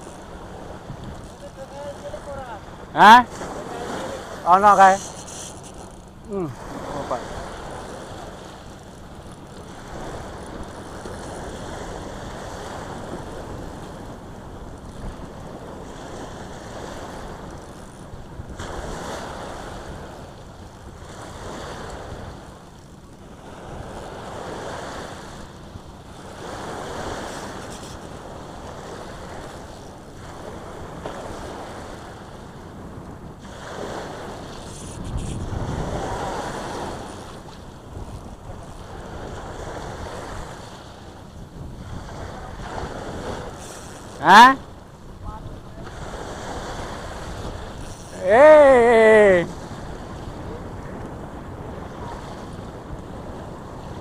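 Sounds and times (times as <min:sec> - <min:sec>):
wind on microphone: 0:00.0 - 0:22.6, 0:26.2 - 0:54.0
small waves breaking on beach: 0:00.0 - 0:54.0.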